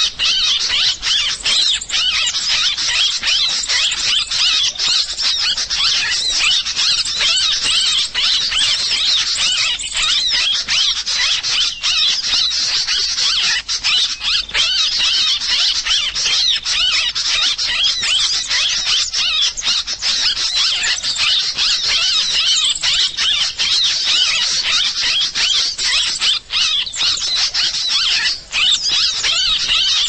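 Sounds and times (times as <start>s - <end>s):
rapid high-pitched bird chirps: 0.0s - 30.0s.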